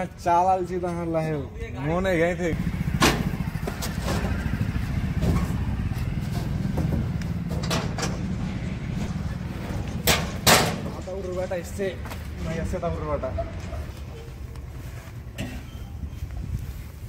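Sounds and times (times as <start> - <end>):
diesel tractor engine idling: 1.9 - 16.7.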